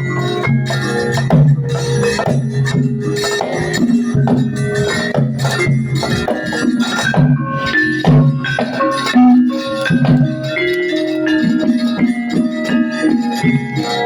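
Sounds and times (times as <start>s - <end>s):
gamelan music: 0.0s - 14.0s.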